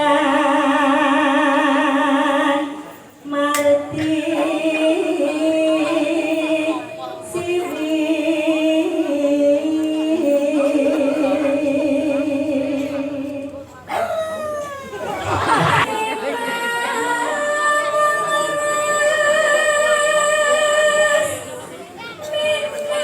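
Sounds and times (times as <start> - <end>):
woman singing with vibrato: 0.0 - 14.0, 15.1 - 21.5, 22.2 - 23.0.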